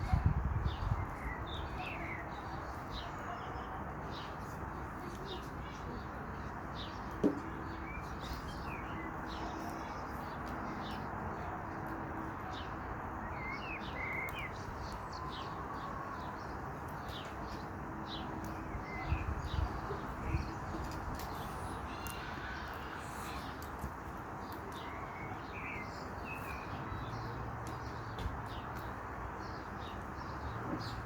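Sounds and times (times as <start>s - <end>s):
wild birds chirping: 0.6s - 31.0s.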